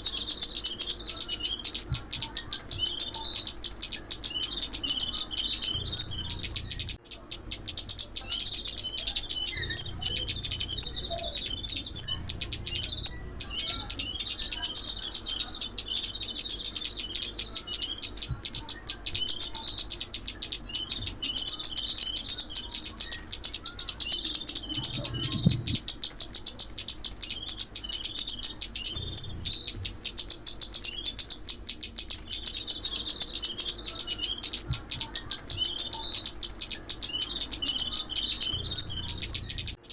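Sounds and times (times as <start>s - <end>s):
songbird twittering chirps: 0.0s - 39.9s.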